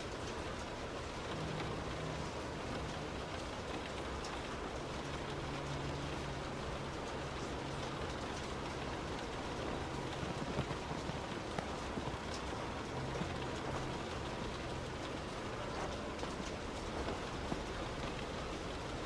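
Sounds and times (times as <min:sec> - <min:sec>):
heavy rain hissing on a car: 0:00.0 - 0:19.0
raindrops ticking: 0:00.0 - 0:19.0
low hum: 0:01.0 - 0:19.0.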